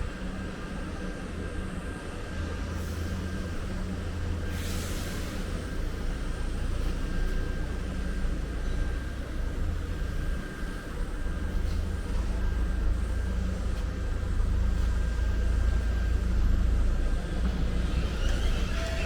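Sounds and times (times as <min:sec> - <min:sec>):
large vehicle engine rumble: 0:02.5 - 0:19.0.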